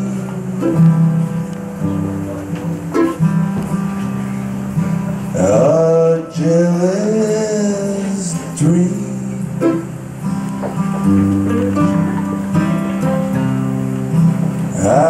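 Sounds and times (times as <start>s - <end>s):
acoustic guitar picking: 0.0s - 15.0s
sliding bending guitar melody: 0.0s - 15.0s.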